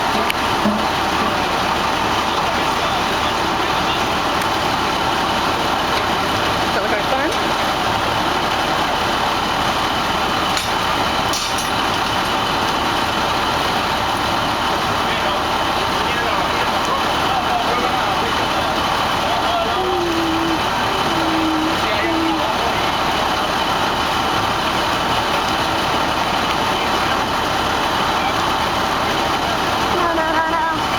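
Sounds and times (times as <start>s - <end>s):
engine-driven pump droning: 0.0s - 30.9s.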